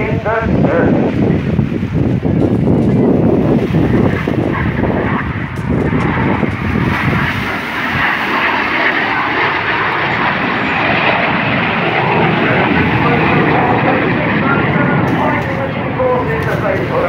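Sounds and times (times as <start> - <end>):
jet engines passing low: 0.0 - 17.0
wind: 0.0 - 17.0
surf breaking: 2.9 - 17.0.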